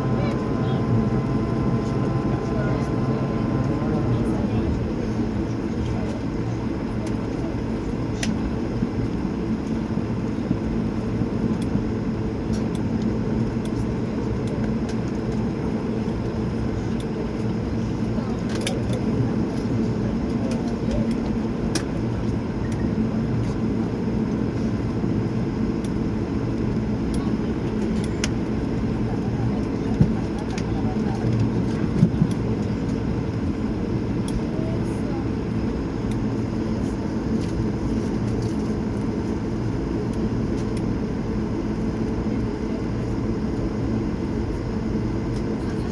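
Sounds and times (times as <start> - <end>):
aircraft cabin low rumble: 0.0 - 45.9.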